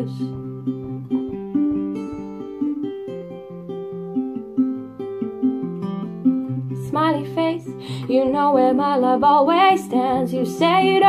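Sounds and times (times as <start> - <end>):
acoustic guitar arpeggios: 0.0 - 11.0.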